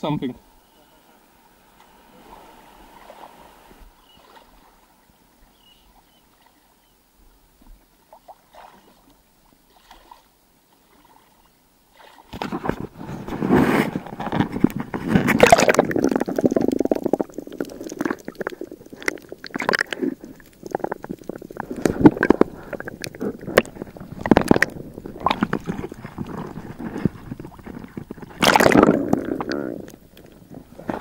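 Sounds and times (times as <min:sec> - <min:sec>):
water splashes: 0:01.6 - 0:06.8, 0:08.0 - 0:31.0
water sloshing and gurgling: 0:01.7 - 0:06.9, 0:07.5 - 0:31.0.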